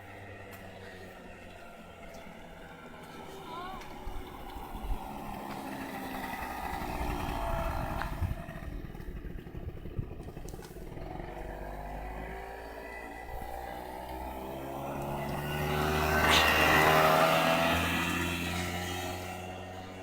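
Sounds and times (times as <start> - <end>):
motorbike engine running: 0.0 - 20.0.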